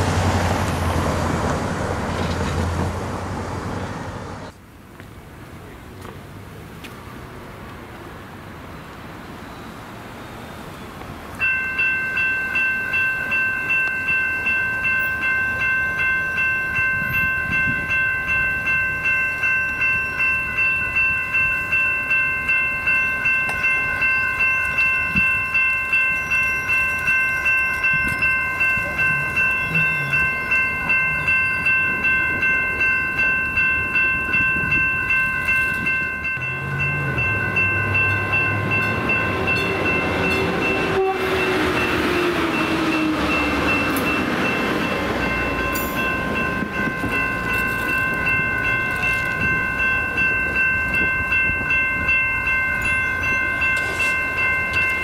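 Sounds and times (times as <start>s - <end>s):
diesel railcar approaching: 0.0s - 55.0s
railroad crossing bell ringing: 8.7s - 55.0s.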